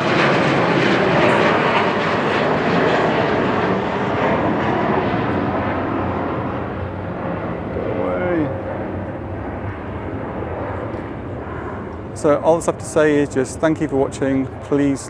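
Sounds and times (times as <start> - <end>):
aeroplane flying overhead: 0.0 - 15.0.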